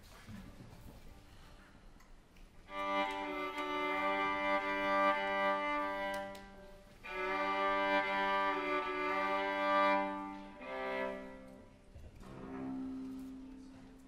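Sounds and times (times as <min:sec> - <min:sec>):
string quartet bowed chords: 0:02.6 - 0:14.0.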